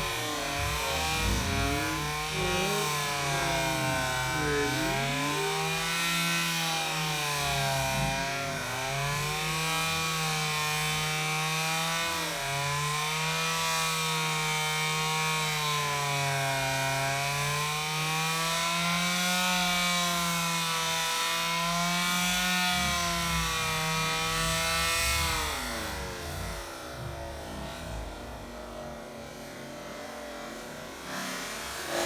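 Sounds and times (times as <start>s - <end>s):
chainsaw cutting wood: 0.0s - 28.4s.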